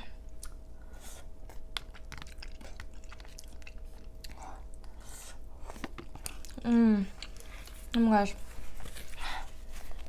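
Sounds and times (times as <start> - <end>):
chewing food: 0.3 - 9.4.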